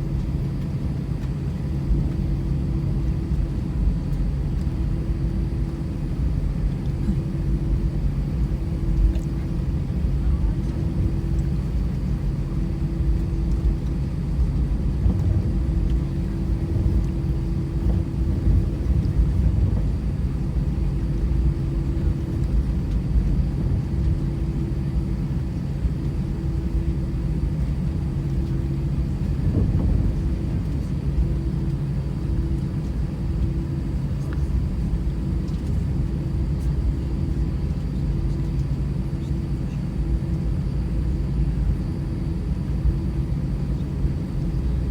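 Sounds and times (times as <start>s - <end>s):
low cabin rumble: 0.0s - 44.9s
jet engine drone: 1.4s - 44.9s.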